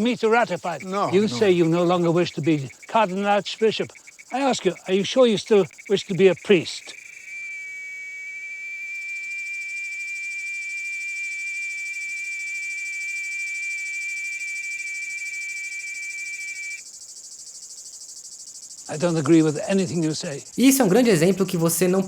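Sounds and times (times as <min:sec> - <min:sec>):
cicada buzzing: 0:00.0 - 0:22.0
pulsing insect chirr: 0:00.0 - 0:22.0.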